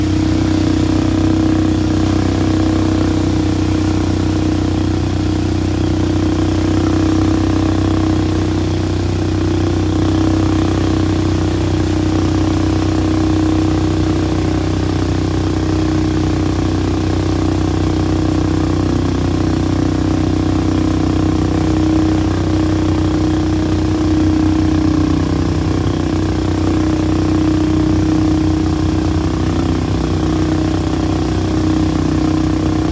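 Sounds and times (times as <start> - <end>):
atv engine running: 0.0 - 32.9.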